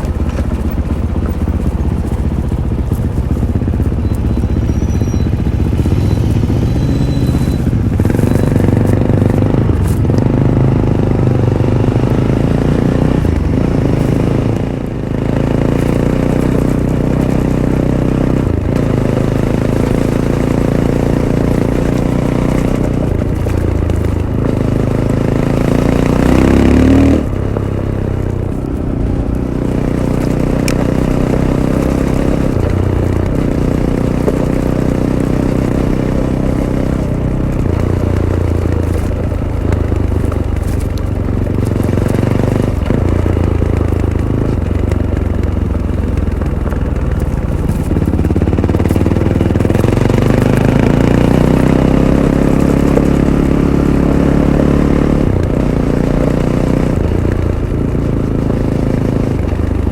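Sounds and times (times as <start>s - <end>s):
motorcycle clatter on rough ground: 0.0s - 59.9s
motorcycle engine revving: 0.0s - 59.9s.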